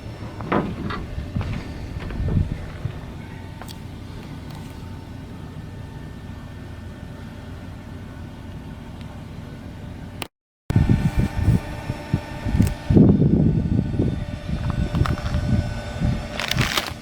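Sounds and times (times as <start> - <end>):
low machinery rumble: 0.0 - 17.0.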